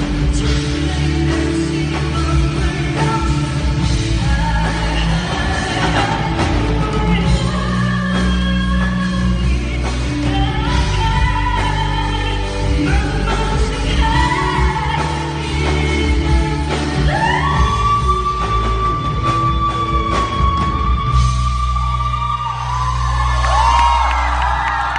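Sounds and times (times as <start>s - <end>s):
woman singing: 0.0s - 23.1s
band accompaniment: 0.0s - 24.9s
steady bass: 0.0s - 24.9s.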